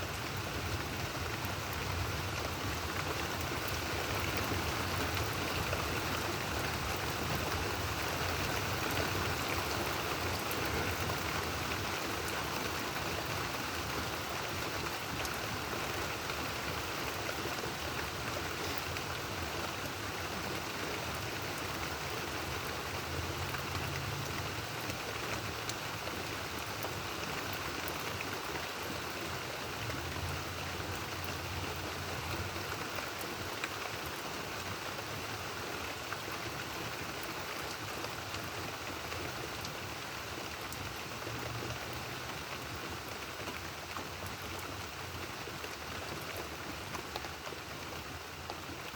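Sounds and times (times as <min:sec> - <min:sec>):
rain falling steadily: 0:00.0 - 0:48.9.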